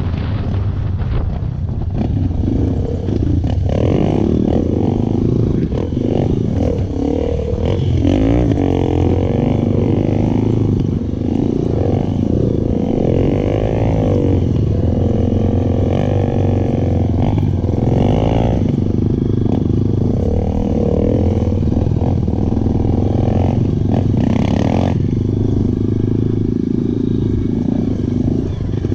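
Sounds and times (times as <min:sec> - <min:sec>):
motorcycle engines revving: 0:00.0 - 0:28.9.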